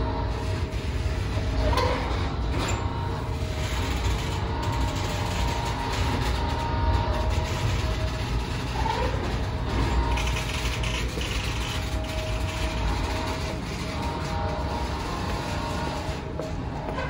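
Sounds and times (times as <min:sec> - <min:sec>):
turntable mechanical hum: 0:00.0 - 0:17.0.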